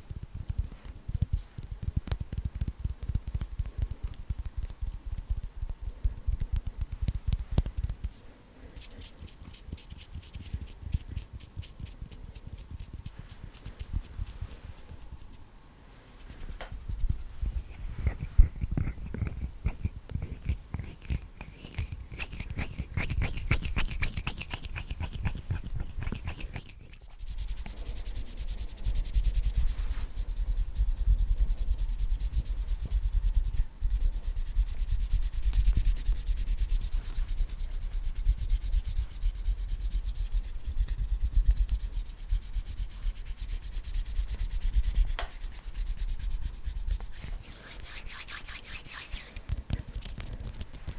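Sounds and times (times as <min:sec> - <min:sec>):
fingers fluttering and tapping: 0:00.0 - 0:08.2, 0:16.5 - 0:47.2, 0:47.9 - 0:50.9
hands rubbing: 0:00.0 - 0:50.9.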